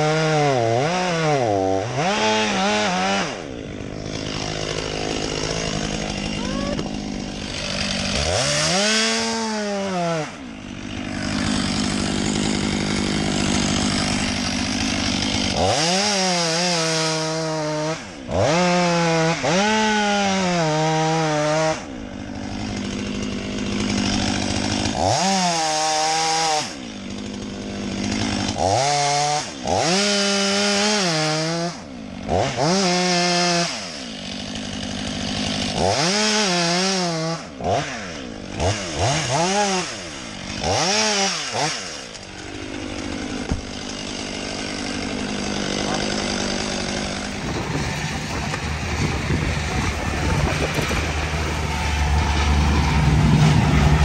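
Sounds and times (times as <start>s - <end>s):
chain cutting into wood: 0.0s - 54.0s
chainsaw revving and idling: 0.0s - 54.0s.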